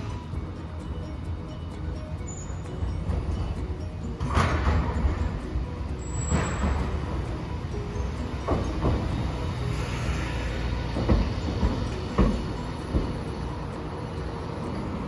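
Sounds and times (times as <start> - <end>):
tram rumbling: 0.0 - 15.0
wheels knocking on rail joints: 0.0 - 15.0.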